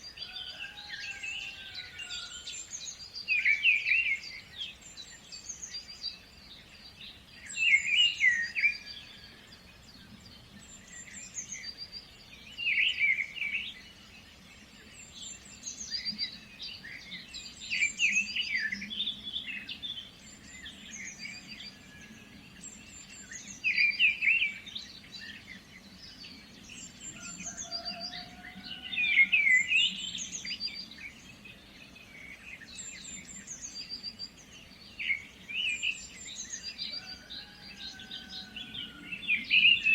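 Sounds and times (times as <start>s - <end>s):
faint low background noise: 0.0s - 39.9s
songbirds chirping and singing: 0.0s - 39.9s.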